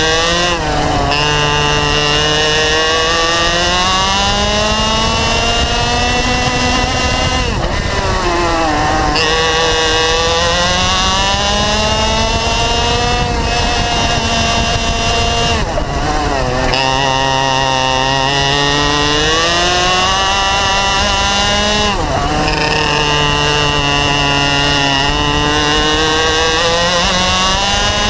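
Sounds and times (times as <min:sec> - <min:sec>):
kart engine at full throttle: 0:00.0 - 0:28.0.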